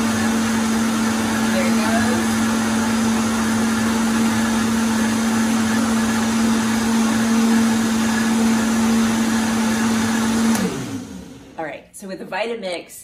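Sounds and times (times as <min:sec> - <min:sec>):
blender running: 0:00.0 - 0:11.6.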